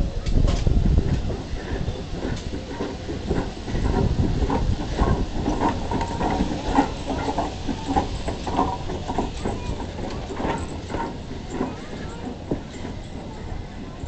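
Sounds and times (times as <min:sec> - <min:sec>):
locomotive rumble: 0:00.0 - 0:14.0
metallic clanks from wheels: 0:00.0 - 0:14.0.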